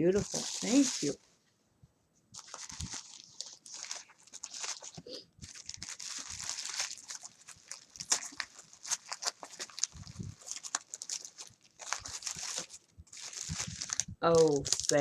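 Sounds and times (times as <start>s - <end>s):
packaging crinkling: 0.1s - 1.2s, 2.4s - 15.0s.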